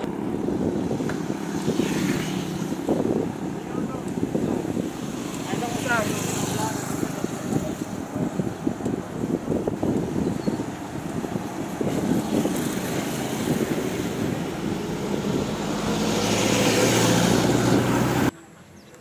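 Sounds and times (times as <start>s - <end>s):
wind rushing over microphone: 0.0s - 18.3s
motor vehicle engine approaching: 0.0s - 19.0s.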